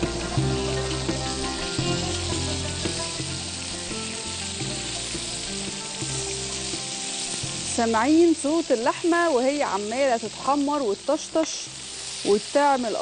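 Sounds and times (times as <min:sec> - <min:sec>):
background music with low notes: 0:00.0 - 0:11.1
meat sizzling in a frying pan: 0:00.0 - 0:13.0.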